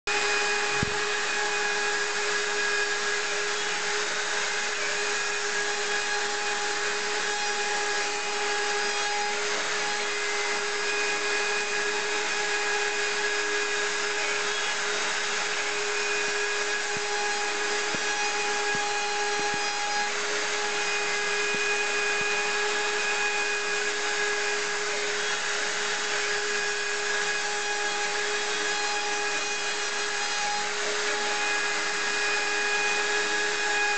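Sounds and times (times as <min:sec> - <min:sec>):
bit cutting wood: 0:00.1 - 0:33.9
router spindle whine: 0:00.1 - 0:33.9.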